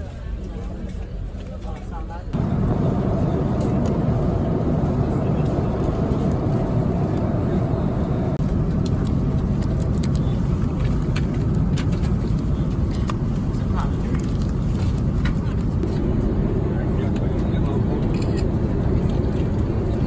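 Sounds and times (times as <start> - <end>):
moving vehicle rumble: 0.7 - 20.0.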